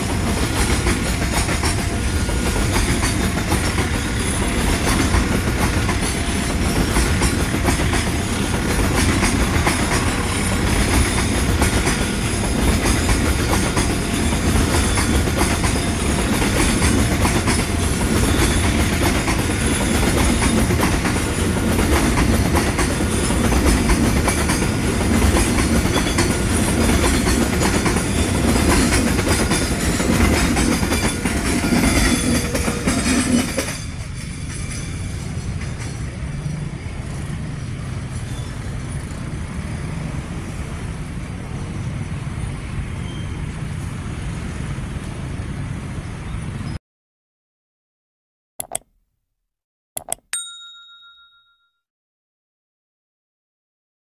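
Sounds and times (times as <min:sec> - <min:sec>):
train wheels rolling on track: 0:00.0 - 0:45.4
distant passing train: 0:00.0 - 0:46.8.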